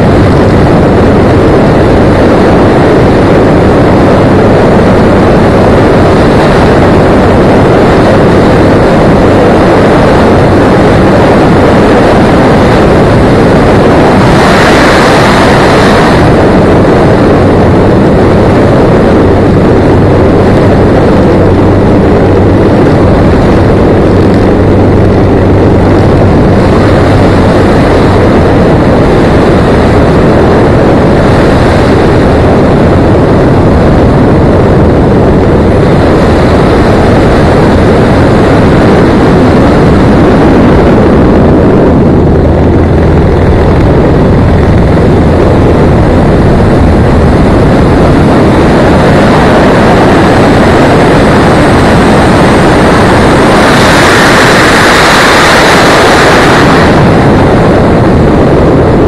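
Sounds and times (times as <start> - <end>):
propeller plane engine hum: 0.0 - 59.0
wind on microphone: 0.0 - 59.0.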